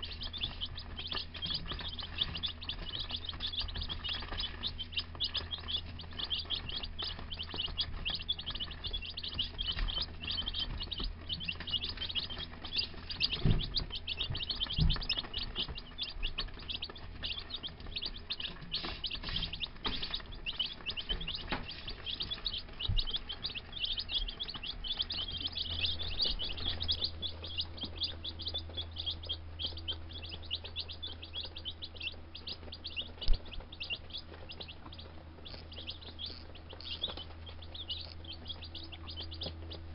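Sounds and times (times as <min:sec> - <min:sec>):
baby chicks peeping: 0:00.0 - 0:39.9
low hum: 0:00.0 - 0:39.9.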